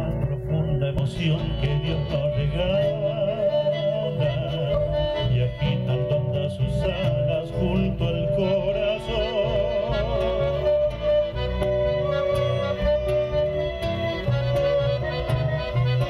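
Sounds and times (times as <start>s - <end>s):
pulsing bass: 0.0s - 16.0s
strummed acoustic guitars: 0.0s - 16.0s
violins playing melody with vibrato: 0.0s - 16.0s.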